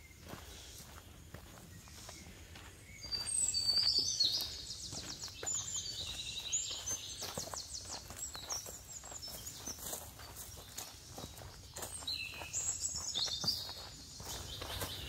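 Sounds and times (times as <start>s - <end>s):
footsteps on rocky dirt trail: 0.0s - 15.0s
songbird singing: 0.0s - 15.0s.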